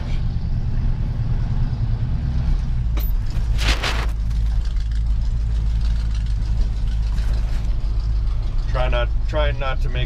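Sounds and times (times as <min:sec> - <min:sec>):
truck engine and road rumble: 0:00.0 - 0:10.0.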